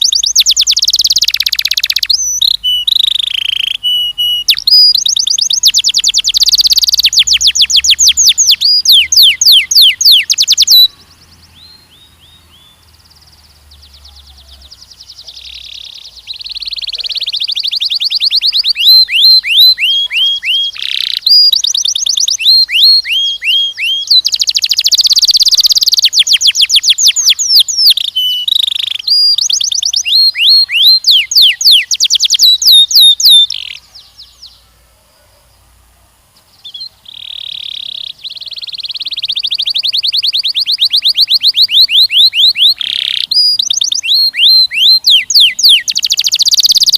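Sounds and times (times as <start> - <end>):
canary singing trills: 0.0 - 34.8, 36.4 - 46.9.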